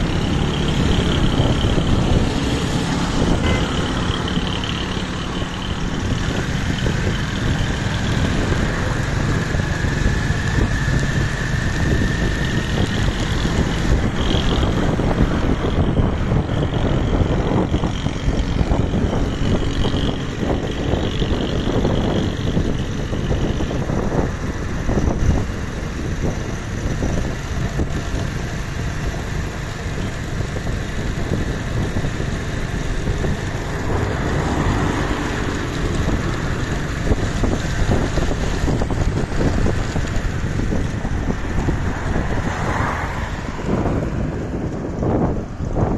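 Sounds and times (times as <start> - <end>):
vehicle engine running: 0.0 - 45.9
wind buffeting microphone: 0.0 - 45.9.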